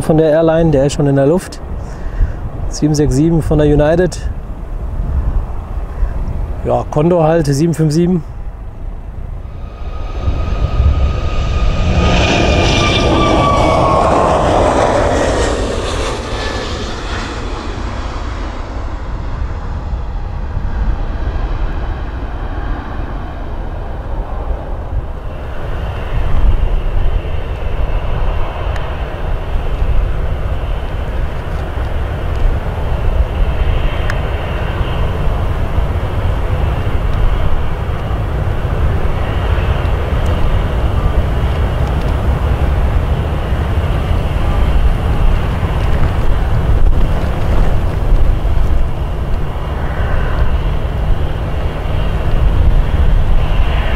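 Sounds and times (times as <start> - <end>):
jet airliner taking off: 0.0 - 53.9
jet engine noise: 0.0 - 53.9
wind rumble on microphone: 0.0 - 53.9.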